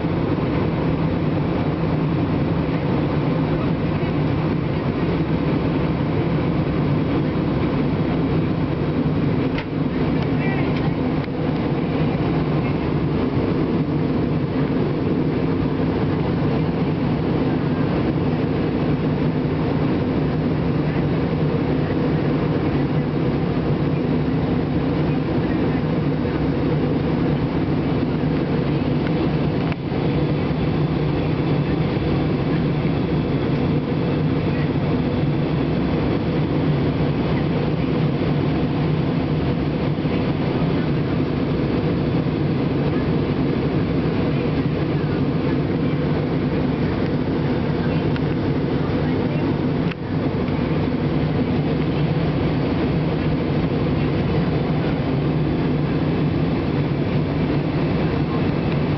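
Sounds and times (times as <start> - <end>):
airliner cabin drone: 0.0 - 58.9.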